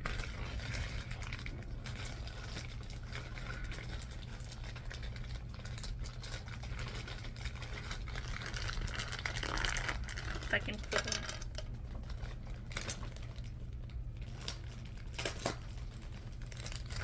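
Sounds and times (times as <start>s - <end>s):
package rustling: 0.0s - 17.0s
steady low hum: 0.0s - 17.0s.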